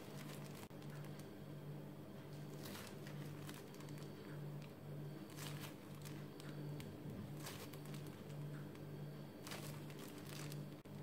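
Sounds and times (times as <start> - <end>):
plastic piping bag crinkling: 0.0 - 1.3, 2.2 - 11.0
low pulsing hum: 0.0 - 11.0.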